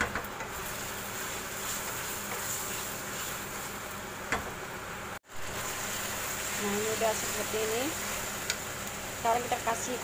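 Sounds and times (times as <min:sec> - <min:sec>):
chicken and onion sizzling: 0:00.0 - 0:10.0.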